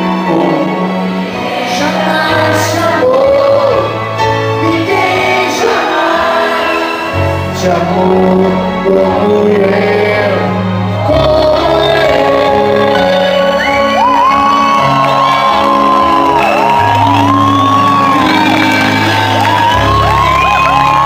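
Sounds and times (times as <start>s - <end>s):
audience shouting and singing along: 0.0s - 21.0s
live band with keyboard: 0.0s - 21.0s.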